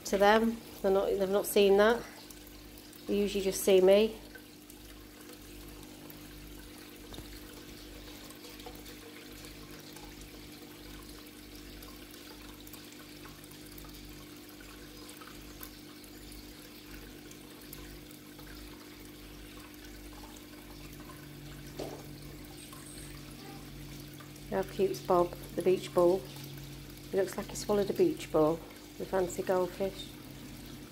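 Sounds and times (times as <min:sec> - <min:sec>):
low steady hum: 0:00.0 - 0:30.9
water pouring into pond: 0:01.6 - 0:30.9.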